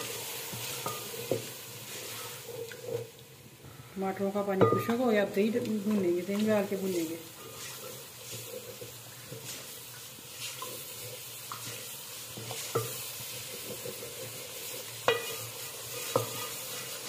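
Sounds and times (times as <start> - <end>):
ladle stirring and scraping: 0.0 - 3.4, 4.6 - 17.0
masala sizzling in a pot: 0.0 - 17.0.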